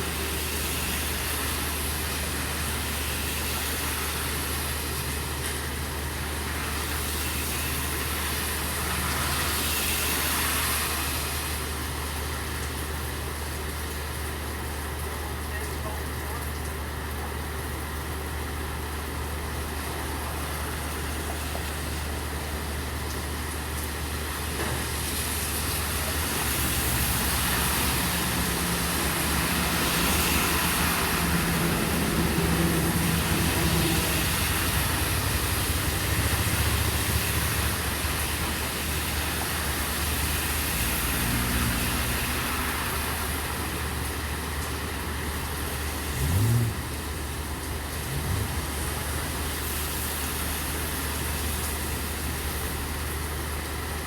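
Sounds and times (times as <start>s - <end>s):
vehicle passing on wet road: 0.0s - 15.0s, 17.7s - 54.0s
rain on a street: 0.0s - 54.0s
low engine hum: 10.6s - 54.0s.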